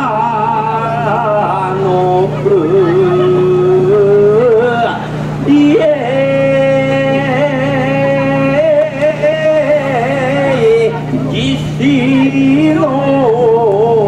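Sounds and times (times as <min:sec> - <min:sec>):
man chanting: 0:00.0 - 0:14.0
steady low hum: 0:00.0 - 0:14.0.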